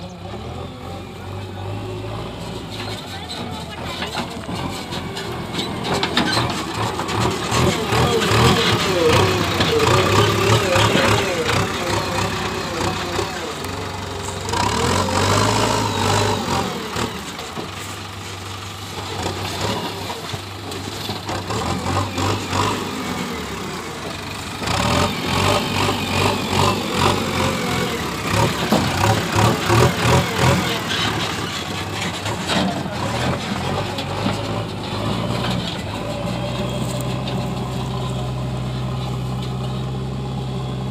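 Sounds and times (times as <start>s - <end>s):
diesel engine of backhoe loader: 0.0s - 40.9s.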